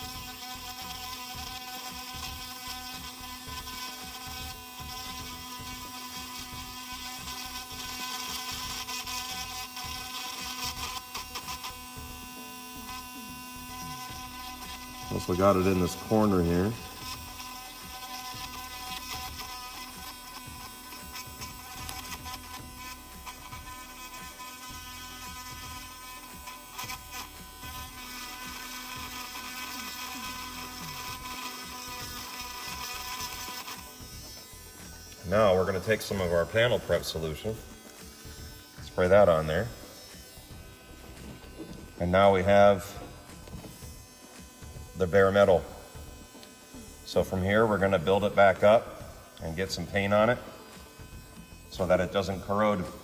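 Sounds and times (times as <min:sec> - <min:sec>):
drill bit grinding paint: 0:00.0 - 0:53.0
handheld drill whining: 0:00.0 - 0:53.0.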